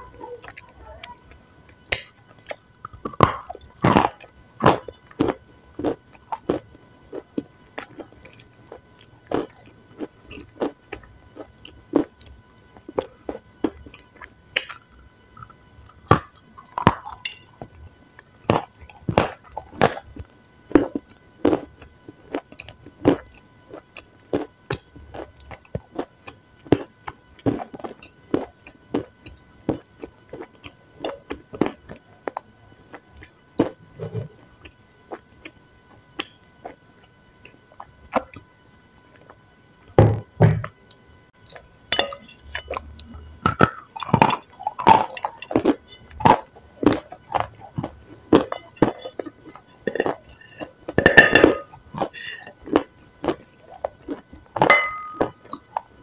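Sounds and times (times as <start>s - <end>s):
crunchy chewing: 0.2s - 38.5s, 41.4s - 56.0s.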